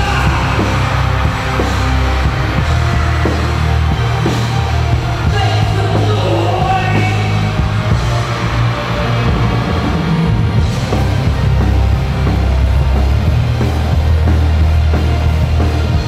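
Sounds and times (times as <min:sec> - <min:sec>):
live concert music with heavy bass: 0:00.0 - 0:16.0.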